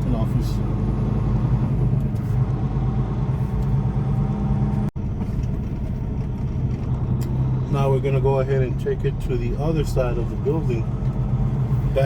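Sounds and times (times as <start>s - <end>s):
diesel truck engine humming: 0.0s - 12.0s.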